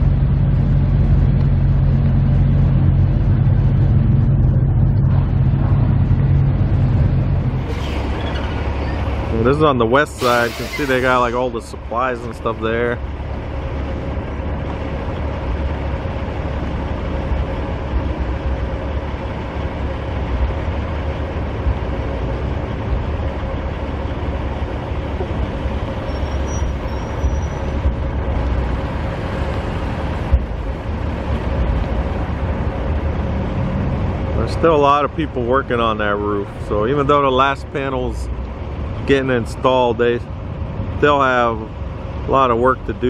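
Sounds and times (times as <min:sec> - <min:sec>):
low rumble: 0:00.0 - 0:10.2, 0:11.0 - 0:43.0.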